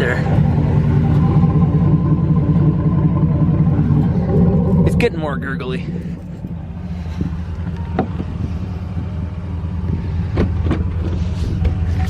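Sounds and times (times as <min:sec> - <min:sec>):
car engine idling with burble: 0:00.0 - 0:12.0.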